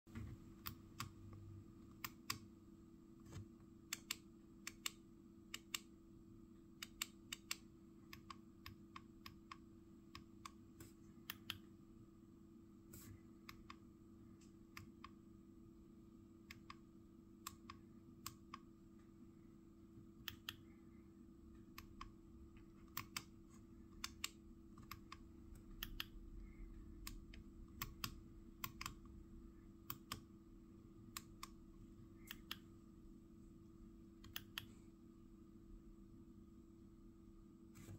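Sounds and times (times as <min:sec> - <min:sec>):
faint steady hum: 0:00.1 - 0:37.9.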